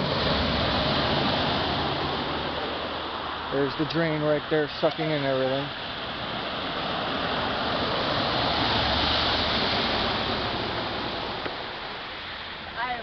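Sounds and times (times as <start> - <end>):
water rushing into storm drain: 0.0 - 13.0.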